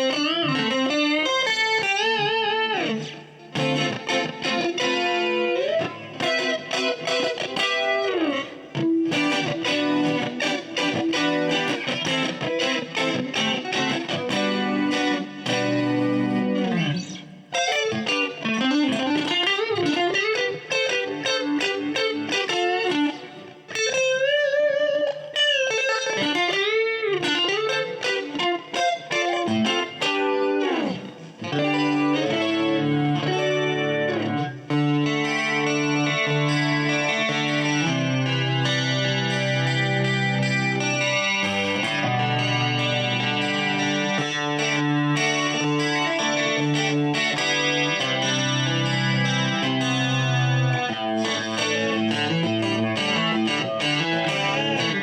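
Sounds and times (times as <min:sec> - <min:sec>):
clean electric guitar lines: 0:00.0 - 0:55.0.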